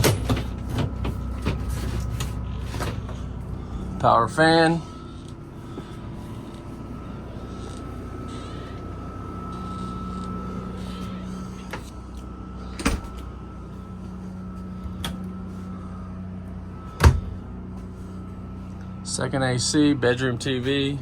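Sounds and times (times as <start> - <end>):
vent fan whirring hum: 0.0 - 21.0.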